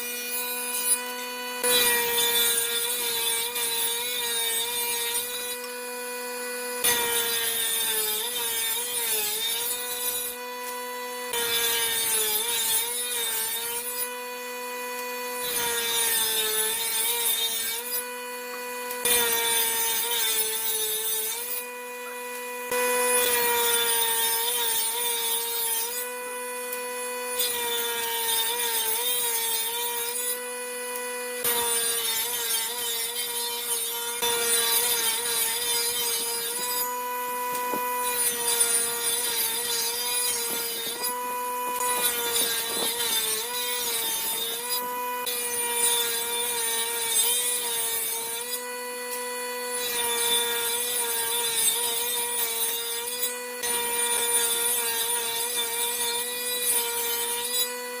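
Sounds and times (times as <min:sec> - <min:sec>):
power tool motor whine: 0:00.0 - 0:58.0
rasping wood cutting: 0:00.0 - 0:58.0.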